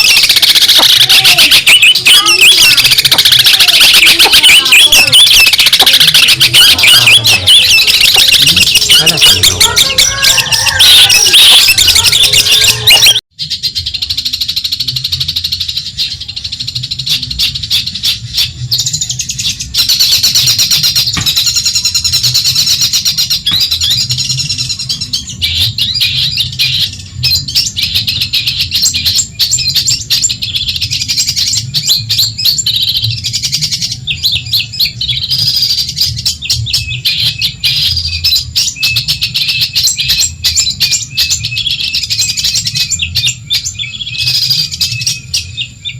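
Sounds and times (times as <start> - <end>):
bird chattering song: 0.0 - 45.9.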